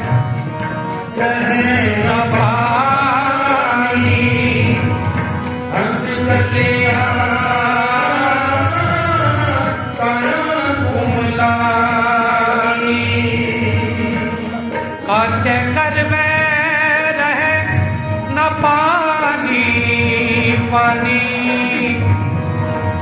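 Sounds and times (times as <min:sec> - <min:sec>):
harmonium melody: 0:00.0 - 0:23.0
tabla beat: 0:00.0 - 0:23.0.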